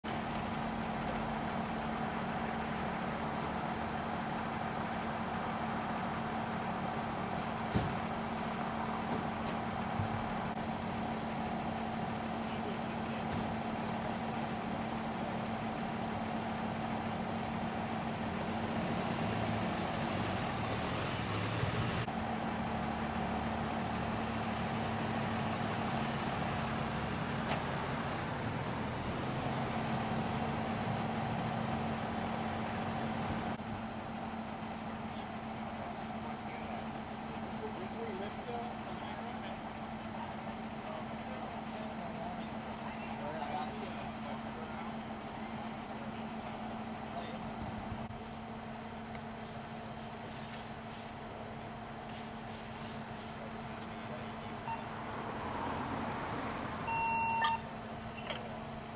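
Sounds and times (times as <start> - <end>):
diesel fire engine idling: 0.0 - 58.9.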